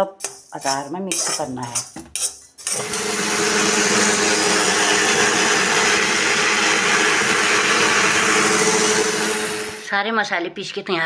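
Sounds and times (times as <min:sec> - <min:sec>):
mixer grinder grinding spices: 0:00.2 - 0:09.9.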